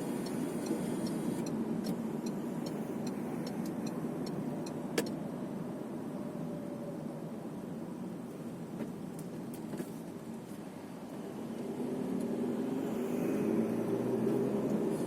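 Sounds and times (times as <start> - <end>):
engine and road noise hum: 0.0 - 15.0.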